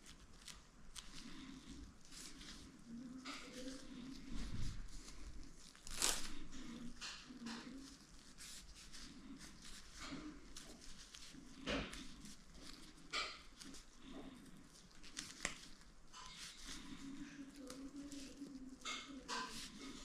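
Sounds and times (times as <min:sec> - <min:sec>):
faint rustling: 0:00.0 - 0:20.0.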